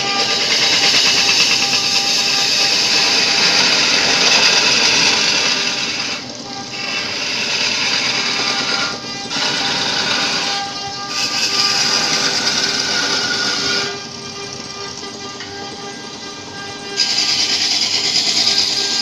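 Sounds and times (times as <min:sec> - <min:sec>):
turning tool cutting wood: 0:00.0 - 0:19.0
wood lathe whine: 0:00.0 - 0:19.0.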